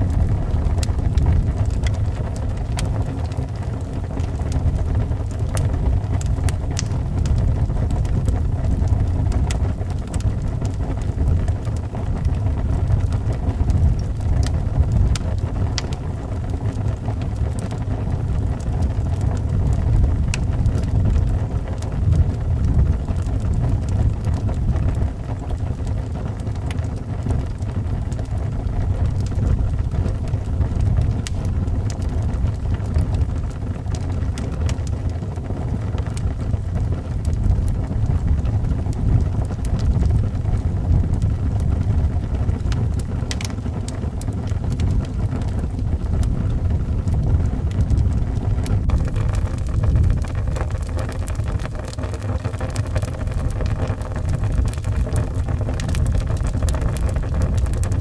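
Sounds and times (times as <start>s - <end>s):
fireplace fire crackling: 0.0s - 58.0s.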